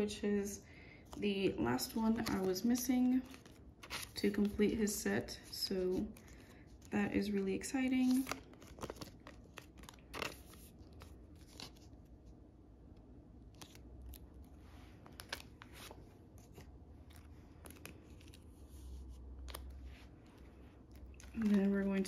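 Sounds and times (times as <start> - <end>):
thin plastic crinkling: 1.1 - 12.4, 13.5 - 22.0.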